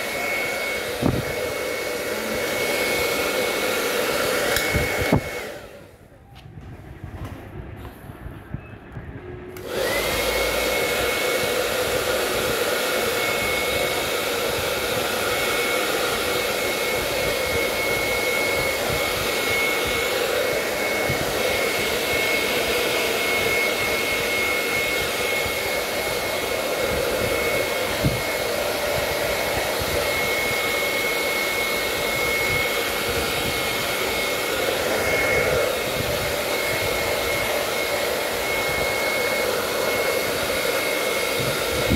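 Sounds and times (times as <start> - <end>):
hair dryer switch: 0.0 - 5.8, 9.5 - 41.9
hair dryer blowing with whine: 0.0 - 41.9.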